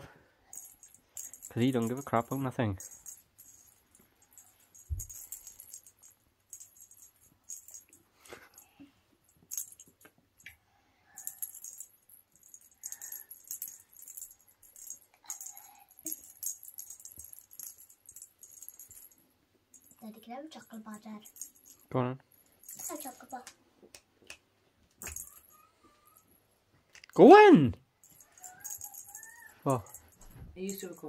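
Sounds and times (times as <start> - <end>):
small bell jingling: 0.5 - 10.5, 11.1 - 23.5, 25.0 - 26.4, 27.0 - 31.0.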